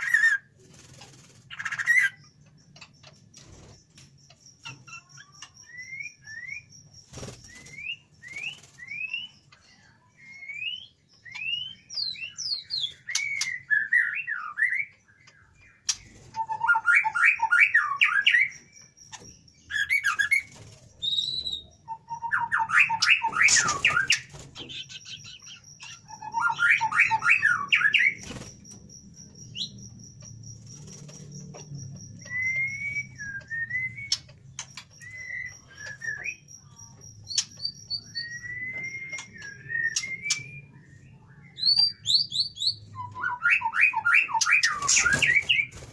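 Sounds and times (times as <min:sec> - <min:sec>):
bird singing with rattling trills: 0:00.0 - 0:45.9.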